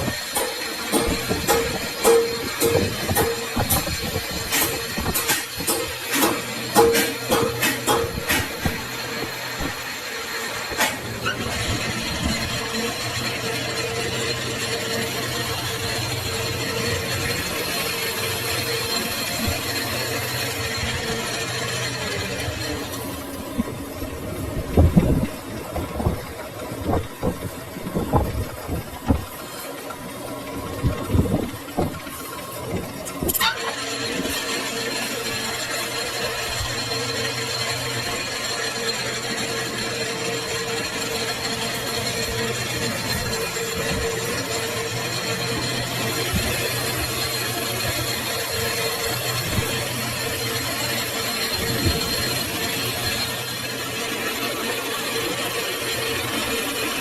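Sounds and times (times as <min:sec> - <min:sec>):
metal lathe running: 0:00.0 - 0:57.0.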